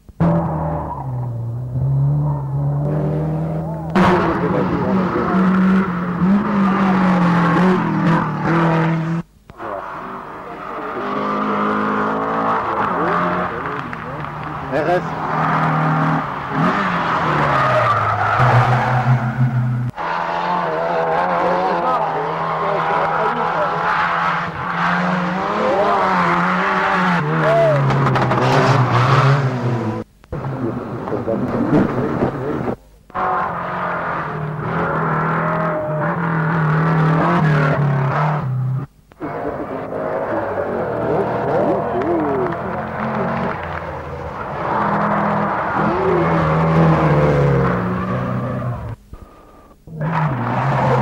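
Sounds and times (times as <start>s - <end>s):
car engine approaching: 0.0s - 51.0s
rally car engines at high revs: 0.0s - 51.0s.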